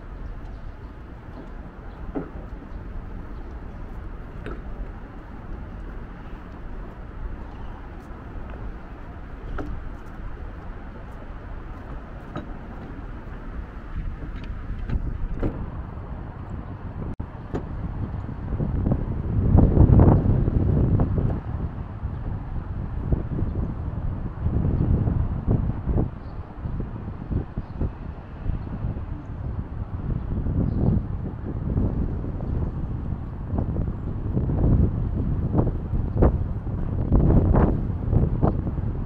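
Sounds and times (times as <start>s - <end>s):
distant traffic hum: 0.0s - 39.0s
wind rumble on microphone: 0.0s - 39.0s.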